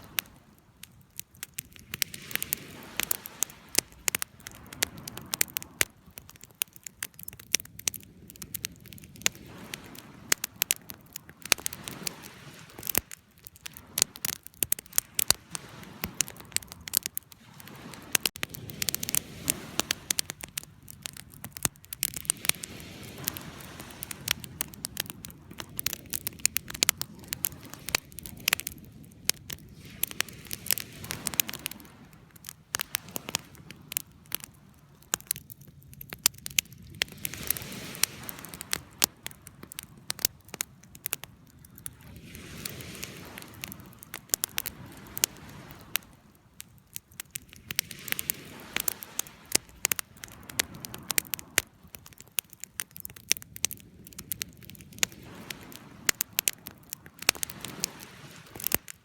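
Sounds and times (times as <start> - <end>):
wood crackling and popping: 0.0 - 59.0
rush of flame: 1.7 - 46.2, 47.2 - 59.0.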